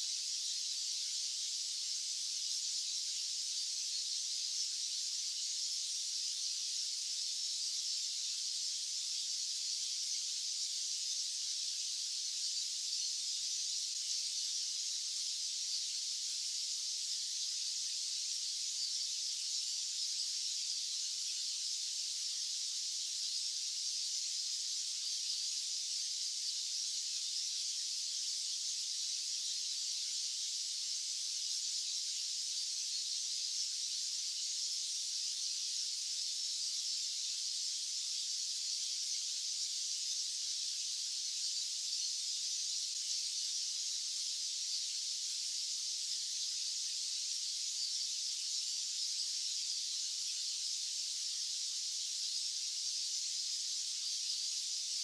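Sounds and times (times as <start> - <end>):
high-pitched white noise hiss: 0.0 - 55.0.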